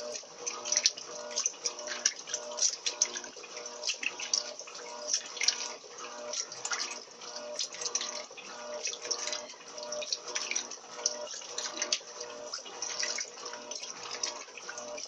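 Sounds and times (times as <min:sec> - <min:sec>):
washing machine motor humming: 0:00.0 - 0:15.0
water sloshing in washing machine: 0:00.0 - 0:15.0.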